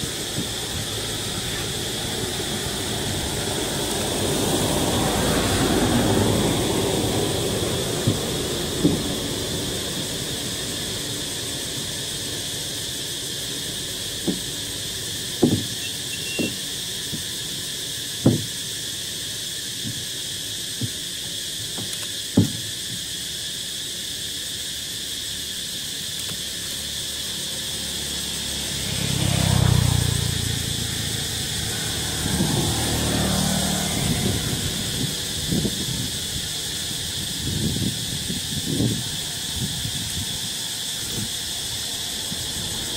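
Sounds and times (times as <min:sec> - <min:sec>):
high drone of insects: 0:00.0 - 0:42.9.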